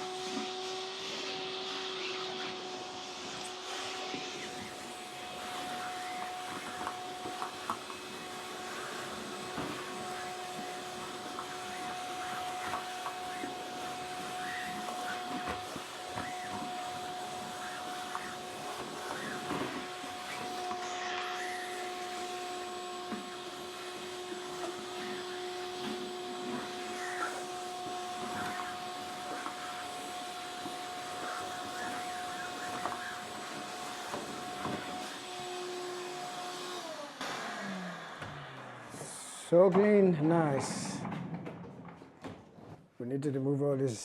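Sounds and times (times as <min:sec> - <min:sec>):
shop vac motor whine: 0:00.0 - 0:39.7.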